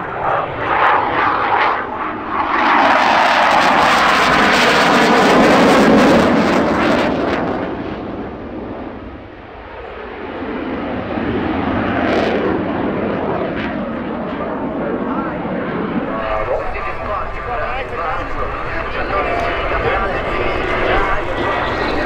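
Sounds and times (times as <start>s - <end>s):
jet engines passing low: 0.0s - 22.0s.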